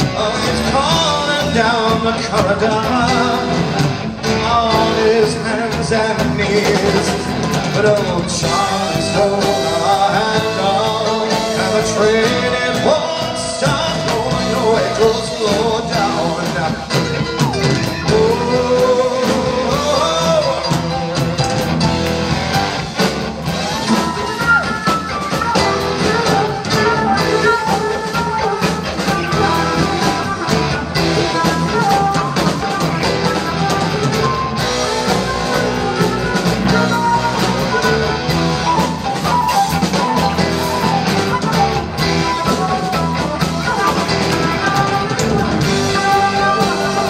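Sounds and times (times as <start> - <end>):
bass guitar: 0.0 - 47.0
drums: 0.0 - 47.0
electric guitar: 0.0 - 47.0
flute melody: 0.0 - 47.0.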